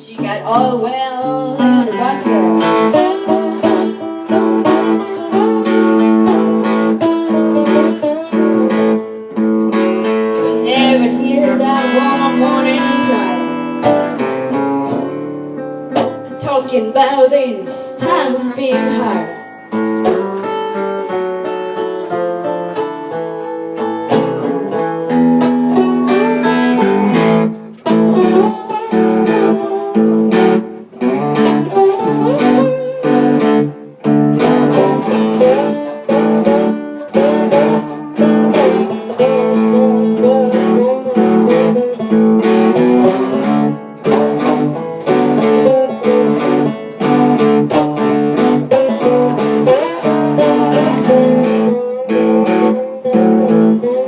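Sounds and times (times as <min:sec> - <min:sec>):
acoustic guitar blues: 0:00.0 - 0:54.0.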